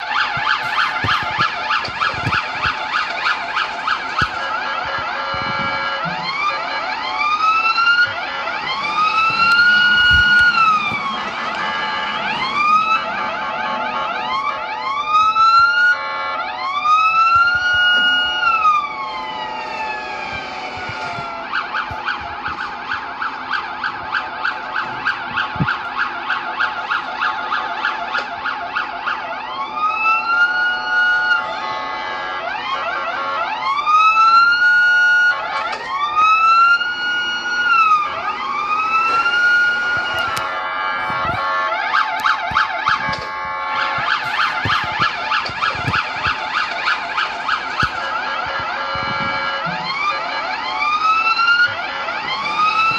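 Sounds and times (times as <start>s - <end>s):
police siren yelping and wailing: 0.0s - 52.9s.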